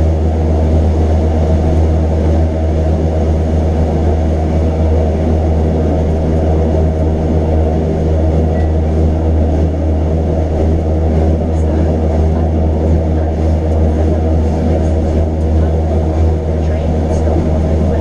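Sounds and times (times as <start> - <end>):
train running drone: 0.0 - 18.0.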